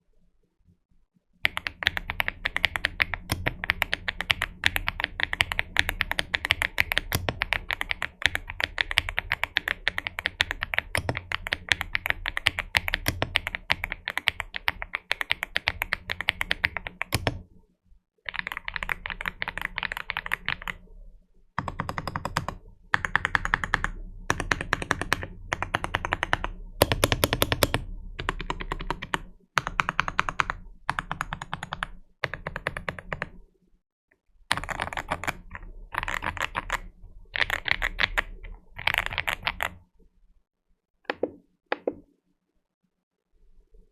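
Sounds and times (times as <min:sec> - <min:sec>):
mechanical keyboard typing: 0:01.4 - 0:17.5, 0:18.2 - 0:20.8, 0:21.6 - 0:33.4, 0:34.5 - 0:39.8.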